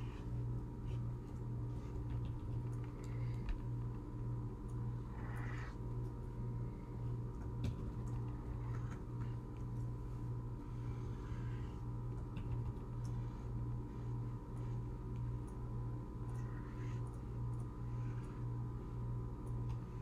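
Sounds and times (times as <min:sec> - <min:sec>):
pulsing low electrical hum: 0:00.0 - 0:20.0.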